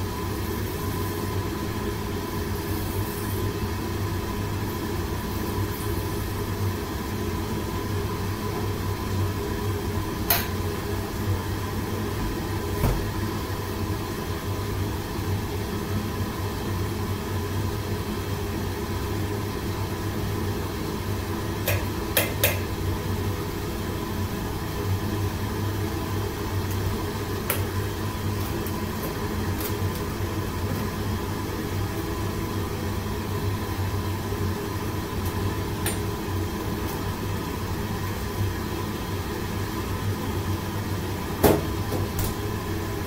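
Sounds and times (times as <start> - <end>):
gas wok range roaring: 0.0 - 43.0
kitchen ventilation running: 0.0 - 43.0.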